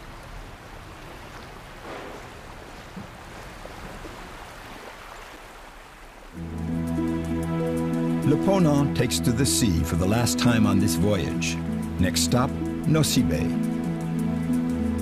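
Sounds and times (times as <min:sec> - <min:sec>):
sea water washing: 0:00.0 - 0:13.9
wind: 0:00.0 - 0:15.0.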